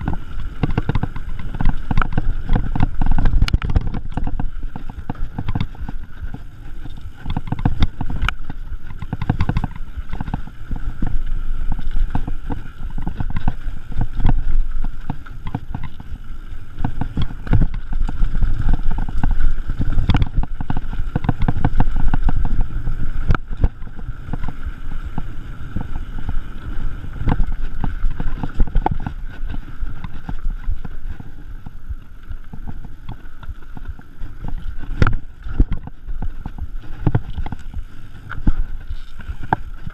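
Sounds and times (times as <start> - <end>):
bike rattling over bumps: 0.0 - 39.9
bike tyres rumbling on dirt: 0.0 - 39.9.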